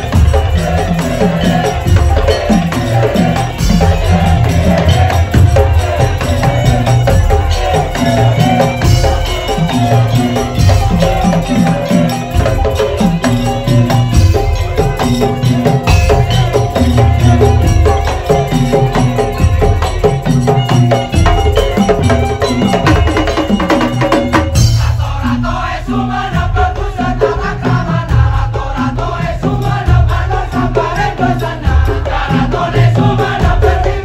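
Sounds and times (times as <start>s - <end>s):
bamboo and wooden slit drums: 0.0s - 34.0s
drums: 0.0s - 34.0s.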